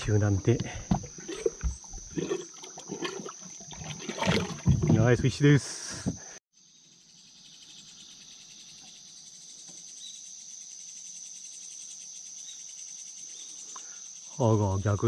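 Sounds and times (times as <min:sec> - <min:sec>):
insects singing: 0:00.0 - 0:15.0.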